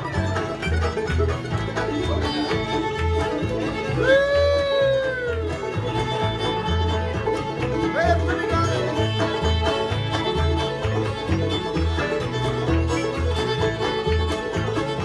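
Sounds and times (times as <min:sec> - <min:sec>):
banjo: 0:00.0 - 0:15.0
fiddle lead: 0:00.0 - 0:15.0
guitar: 0:00.0 - 0:15.0
mandolin: 0:00.0 - 0:15.0
upright bass: 0:00.0 - 0:15.0.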